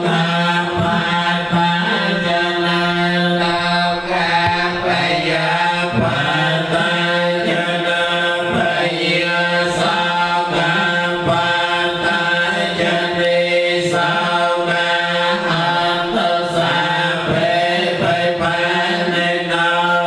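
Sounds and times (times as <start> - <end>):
voices chanting in unison: 0.0 - 20.0.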